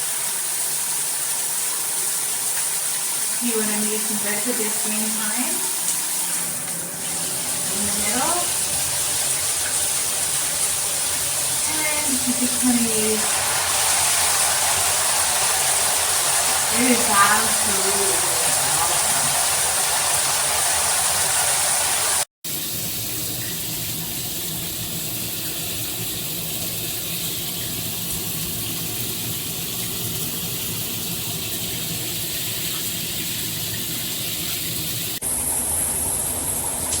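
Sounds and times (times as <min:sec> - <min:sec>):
shower water spraying: 0:00.0 - 0:37.0.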